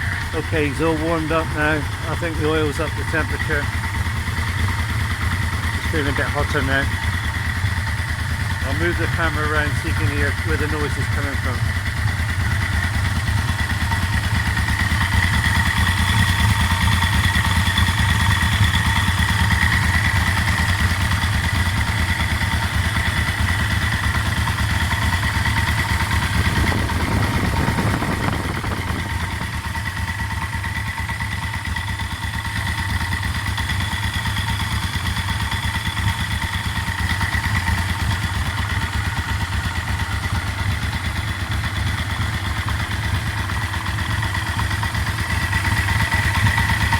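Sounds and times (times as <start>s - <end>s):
engine knocking: 0.0s - 46.9s
motorcycle engine idling: 0.0s - 46.9s.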